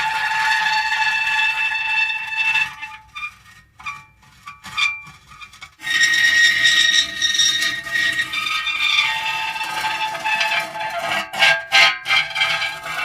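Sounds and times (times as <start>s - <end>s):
metal creaking: 0.0s - 13.0s.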